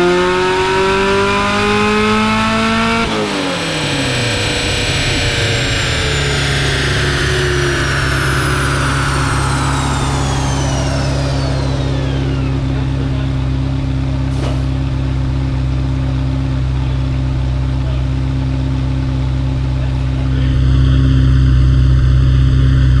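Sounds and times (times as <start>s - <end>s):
high whine of coasting rollers: 1.7s - 23.0s
car engine idling: 3.1s - 23.0s.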